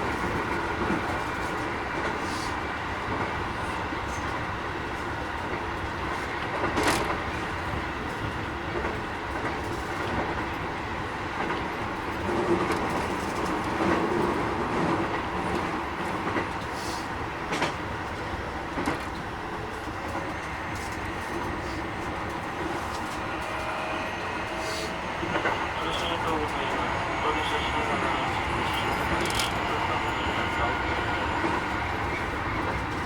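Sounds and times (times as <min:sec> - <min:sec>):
train running noise: 0:00.0 - 0:33.0
rail joint clacks: 0:03.0 - 0:33.0.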